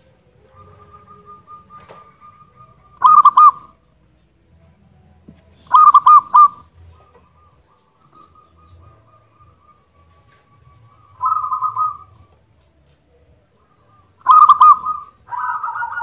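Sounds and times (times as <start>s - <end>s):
dove cooing: 0.0s - 4.2s, 5.3s - 16.0s.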